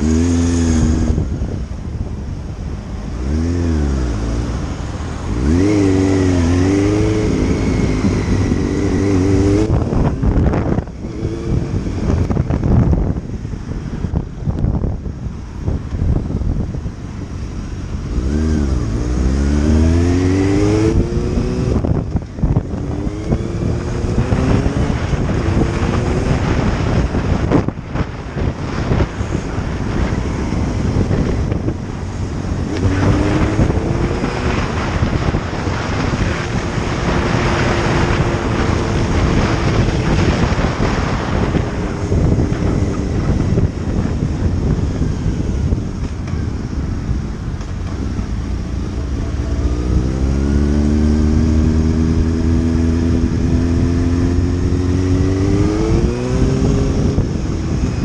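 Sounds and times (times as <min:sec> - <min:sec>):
motorcycle engine accelerating: 0:00.0 - 0:58.0
wind noise on microphone: 0:00.0 - 0:58.0.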